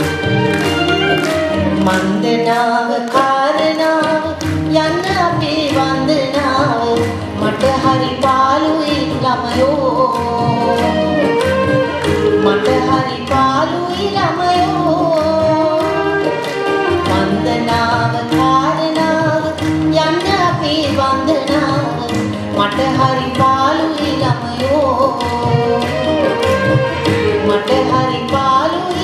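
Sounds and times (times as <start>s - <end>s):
guitar: 0.0s - 29.0s
tabla beat: 0.0s - 29.0s
violin: 0.0s - 29.0s
woman singing: 0.0s - 29.0s.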